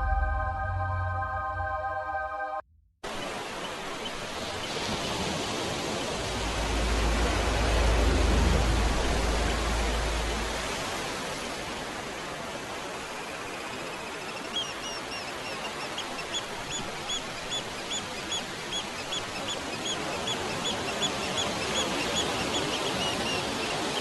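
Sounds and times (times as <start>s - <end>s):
wind rustling tree leaves: 3.0s - 24.0s.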